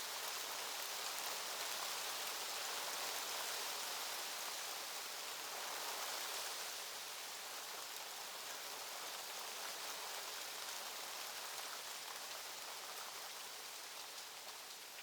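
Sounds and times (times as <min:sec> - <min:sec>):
rain-like hiss: 0:00.0 - 0:15.0.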